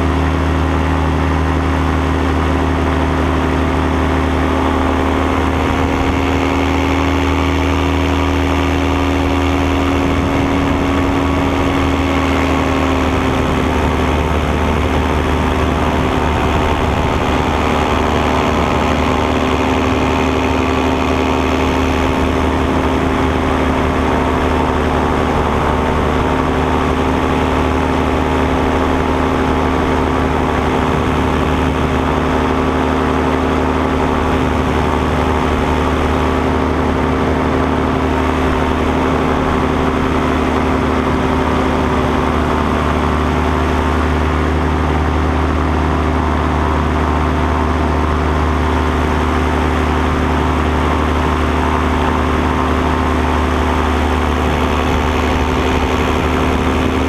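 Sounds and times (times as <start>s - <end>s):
paramotor engine drone: 0.0s - 57.0s.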